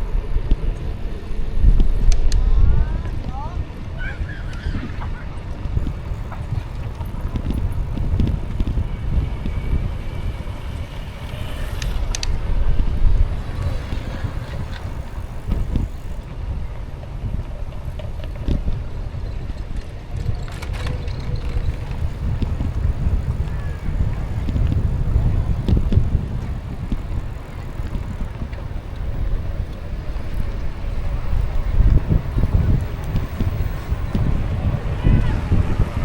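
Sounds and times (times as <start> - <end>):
road noise: 0.0 - 36.0
wind buffeting microphone: 0.0 - 36.0.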